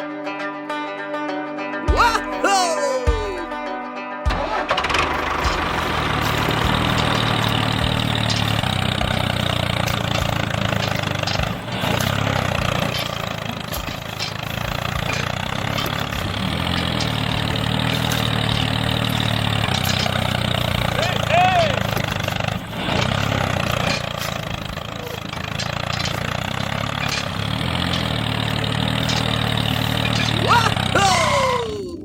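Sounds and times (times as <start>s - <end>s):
small engine running: 4.3s - 31.7s.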